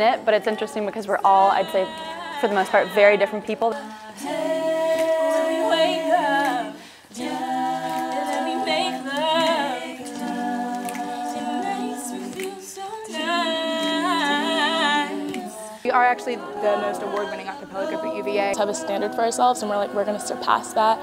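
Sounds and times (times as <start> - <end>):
women singing a cappella harmony: 0.0 - 21.0.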